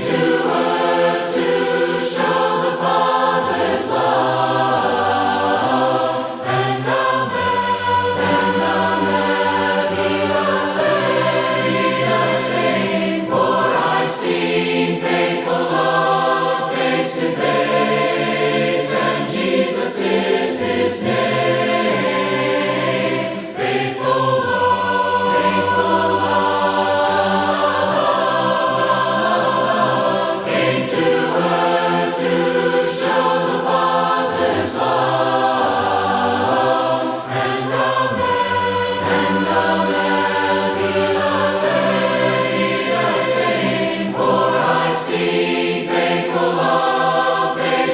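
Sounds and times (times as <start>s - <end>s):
choir singing a hymn: 0.0s - 47.9s.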